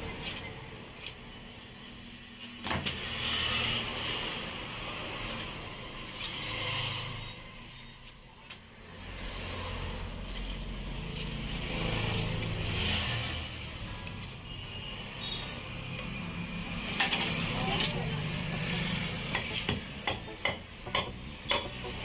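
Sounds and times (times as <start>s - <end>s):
passing road vehicles rumbling: 2.0s - 8.0s, 8.7s - 22.0s.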